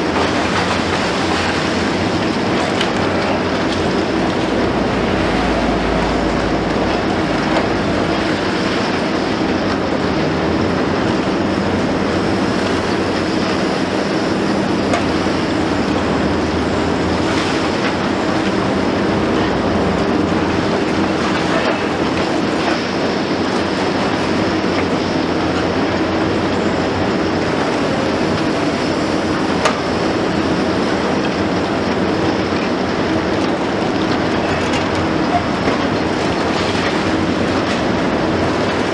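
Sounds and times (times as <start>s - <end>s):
excavator diesel engine under load: 0.0s - 38.9s.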